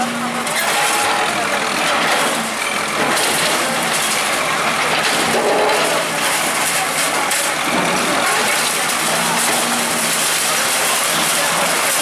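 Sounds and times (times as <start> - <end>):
faint voices: 0.0 - 12.0
outdoor noise wash: 0.0 - 12.0.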